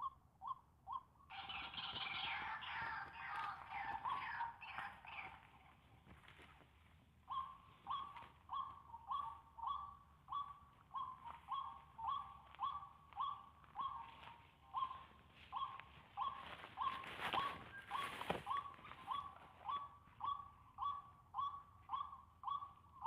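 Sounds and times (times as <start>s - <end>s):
waterhen calling harsh notes: 1.3s - 5.5s, 7.3s - 23.0s.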